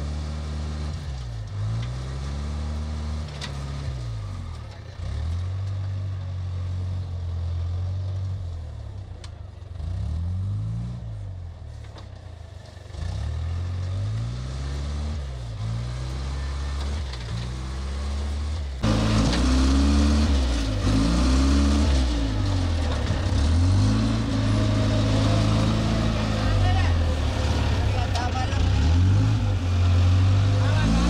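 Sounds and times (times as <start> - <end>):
wheel loader diesel engine revving: 0.0 - 31.0.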